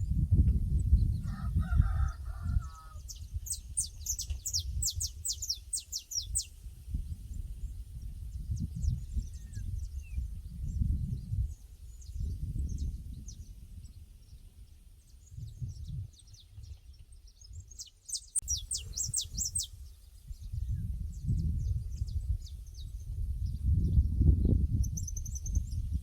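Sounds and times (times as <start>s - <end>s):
wind rumble on microphone: 0.0s - 26.0s
small birds chirping: 2.8s - 6.6s, 7.3s - 26.0s.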